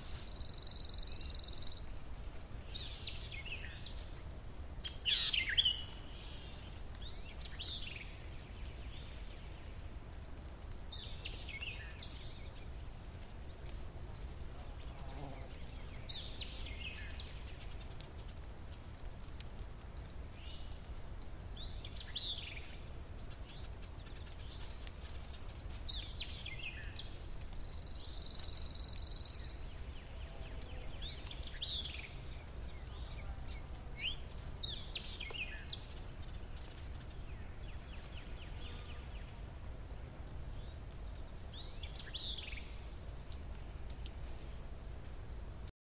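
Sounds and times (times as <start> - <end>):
low background noise: 0.0 - 45.7.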